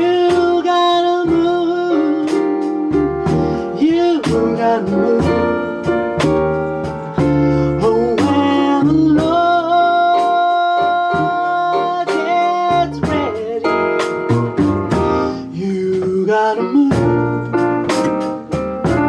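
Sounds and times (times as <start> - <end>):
blues piano: 0.0 - 19.0.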